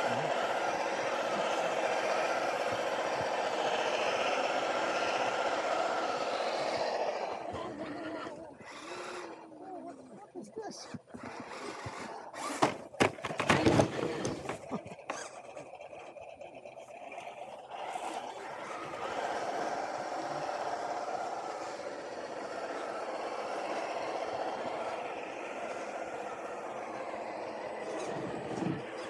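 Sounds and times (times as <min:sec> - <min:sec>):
electric motor drivetrain whine: 0:00.0 - 0:29.0.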